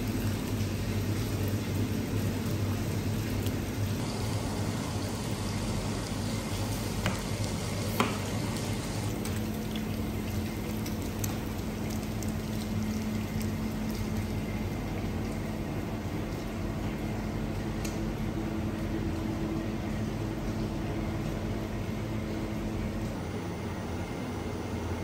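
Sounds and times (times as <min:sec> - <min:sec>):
meat frying in bubbling oil: 0:00.0 - 0:25.0.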